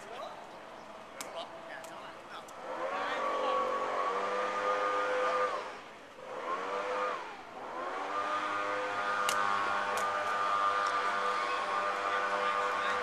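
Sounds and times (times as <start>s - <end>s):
engine running: 2.4s - 13.0s.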